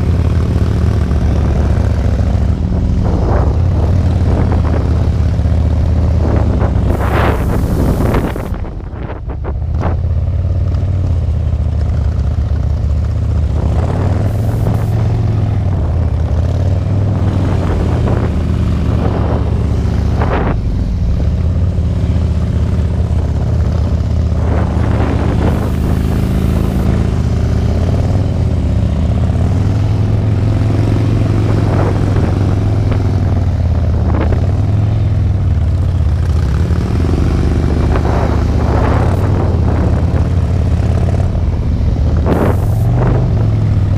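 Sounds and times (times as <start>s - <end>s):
motorcycle engines throbbing: 0.0s - 43.9s.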